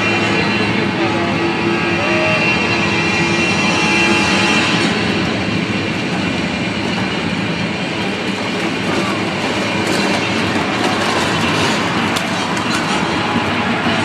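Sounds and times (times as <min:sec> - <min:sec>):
large vehicle engine running: 0:00.0 - 0:14.0.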